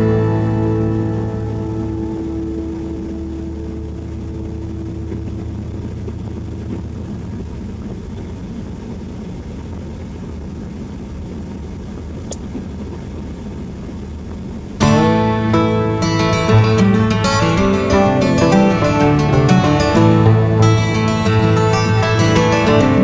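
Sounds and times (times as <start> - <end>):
vehicle engine and road noise: 0.0 - 23.0.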